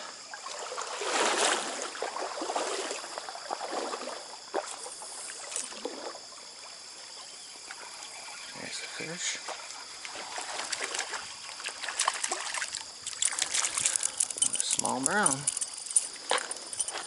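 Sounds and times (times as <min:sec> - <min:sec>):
insect chorus: 0:00.0 - 0:17.0
stream water splashing: 0:00.0 - 0:17.0.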